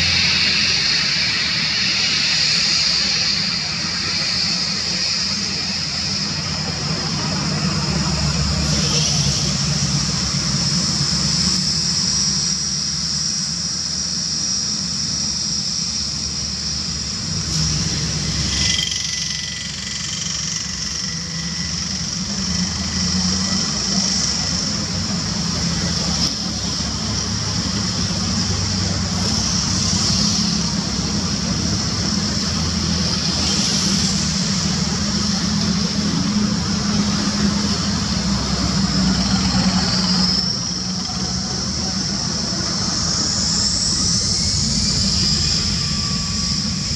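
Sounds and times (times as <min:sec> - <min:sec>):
jet engines idling: 0:00.0 - 0:46.9.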